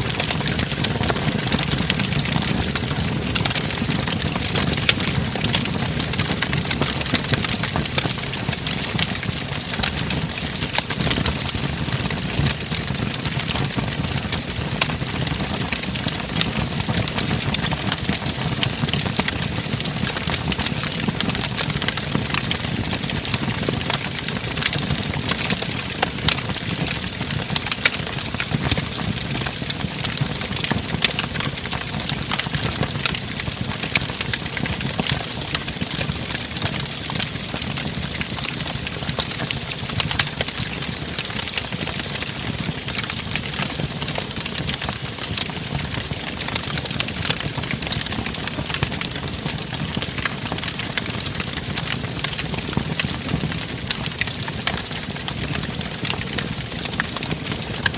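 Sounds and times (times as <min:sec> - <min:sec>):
low rumble of flames: 0:00.0 - 0:57.9
wood fire crackling and popping: 0:00.0 - 0:57.9.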